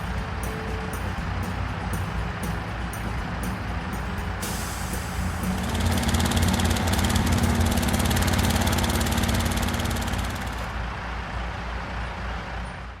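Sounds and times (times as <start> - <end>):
cartoon vehicle engine effect: 0.0 - 10.8.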